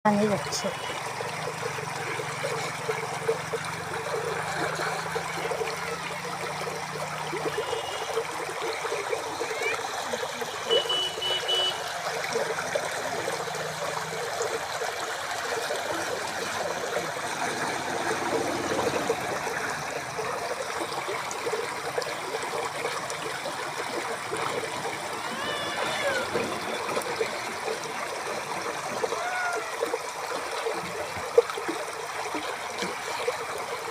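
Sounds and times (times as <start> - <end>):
water trickling and burbling: 0.1 - 33.9.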